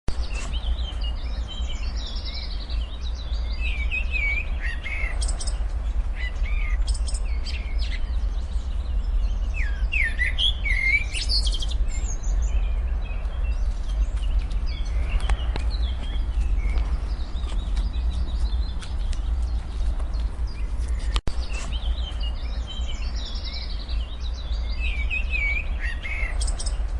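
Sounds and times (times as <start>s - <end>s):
birds chirping and calling: 0.1s - 26.9s
steady low rumble: 0.1s - 26.9s.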